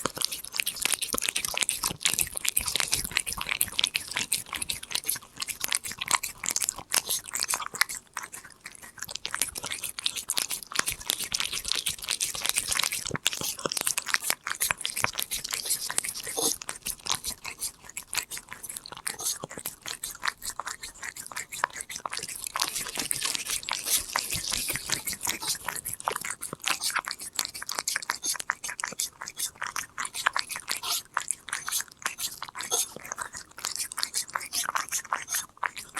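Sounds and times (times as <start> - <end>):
cat crunching treats: 0.0 - 35.9.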